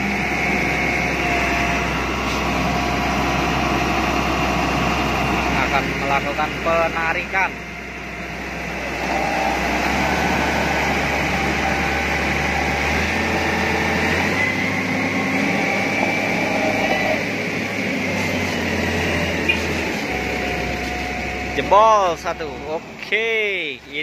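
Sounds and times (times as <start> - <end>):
diesel truck engine under load: 0.0 - 24.0.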